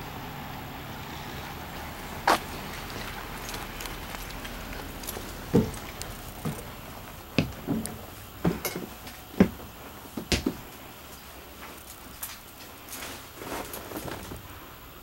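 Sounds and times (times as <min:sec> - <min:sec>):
footsteps on steps and floor: 0:01.8 - 0:14.3.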